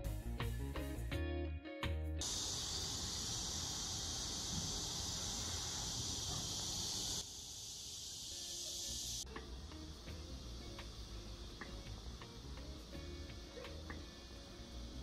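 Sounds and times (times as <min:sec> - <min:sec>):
insects shrilling: 0:02.2 - 0:15.0.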